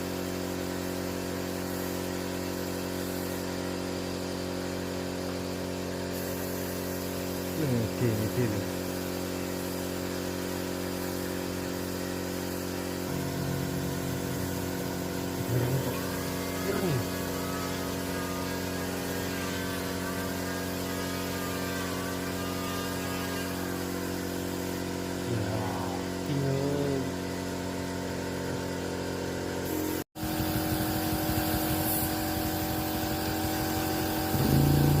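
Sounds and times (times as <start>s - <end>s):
motor humming steadily: 0.0s - 35.0s.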